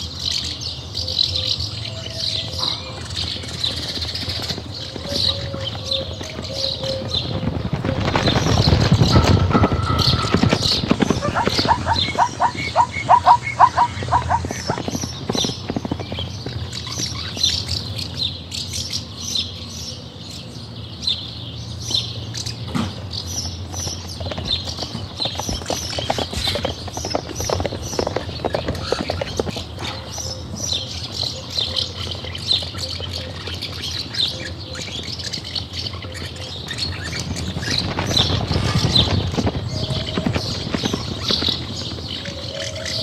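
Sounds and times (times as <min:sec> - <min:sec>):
run of bird calls: 0:00.0 - 0:20.5, 0:21.7 - 0:43.0
small birds chirping: 0:00.0 - 0:43.0.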